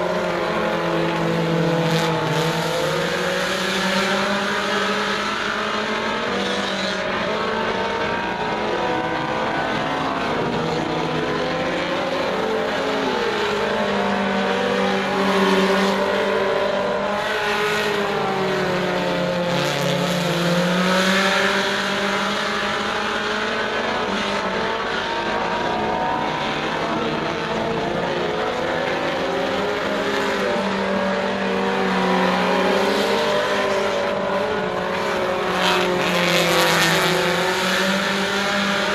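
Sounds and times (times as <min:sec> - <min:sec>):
race car engines: 0:00.0 - 0:38.9.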